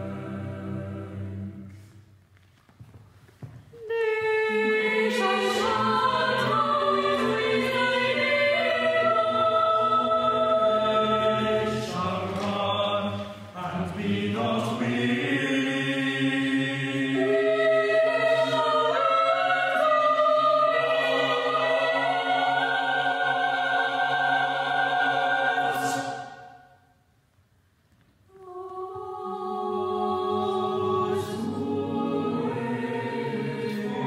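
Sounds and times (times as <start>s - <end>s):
mixed choir singing unaccompanied: 0.0s - 1.9s, 3.8s - 26.8s, 28.3s - 34.0s.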